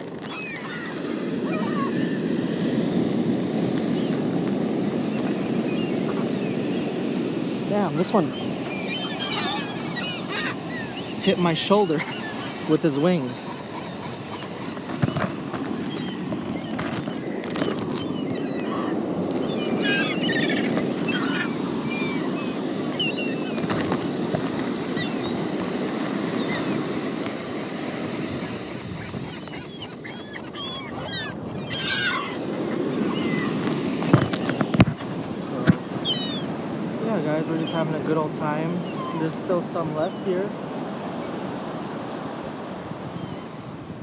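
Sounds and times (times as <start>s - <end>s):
gulls calling: 0.0s - 44.0s.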